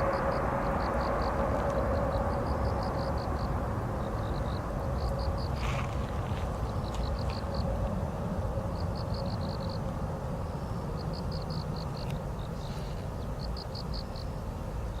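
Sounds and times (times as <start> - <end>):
insect chirping: 0.0 - 15.0
steady low rumble: 0.0 - 15.0.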